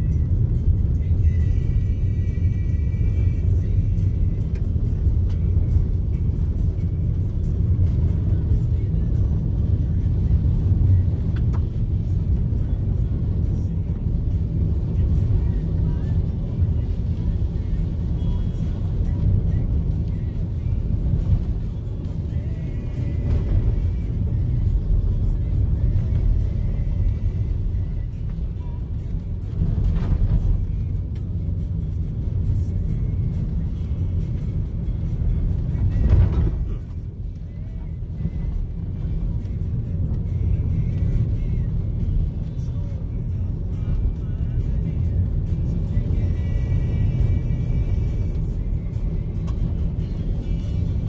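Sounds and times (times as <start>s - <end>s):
car engine and tyre rumble: 0.0s - 51.0s.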